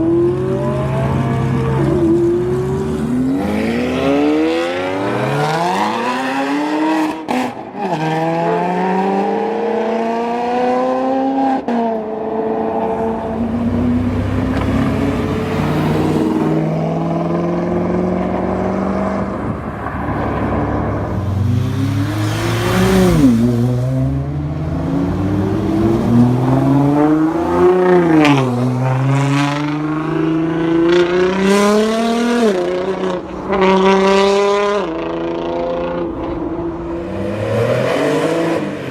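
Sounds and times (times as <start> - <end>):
car engines accelerating hard: 0.0 - 38.9.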